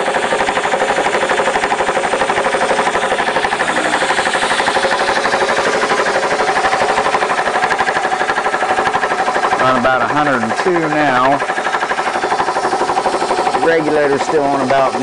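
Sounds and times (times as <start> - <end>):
air compressor chugging: 0.0 - 15.0.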